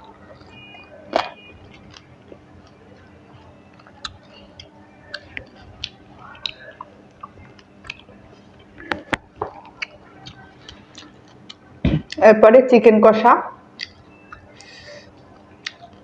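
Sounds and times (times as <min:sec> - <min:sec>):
person chewing with mouth smacks: 0:00.3 - 0:12.2, 0:13.8 - 0:16.0.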